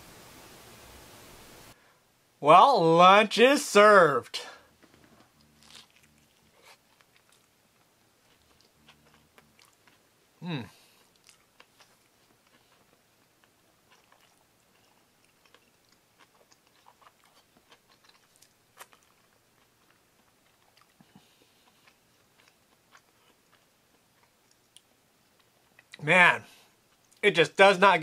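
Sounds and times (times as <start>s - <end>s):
faint chewing: 4.6s - 27.2s.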